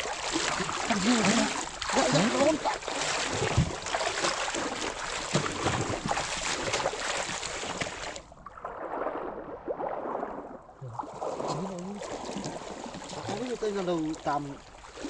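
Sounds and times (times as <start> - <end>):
river water flowing: 0.0 - 15.0
small splashes and knocks: 0.0 - 15.0.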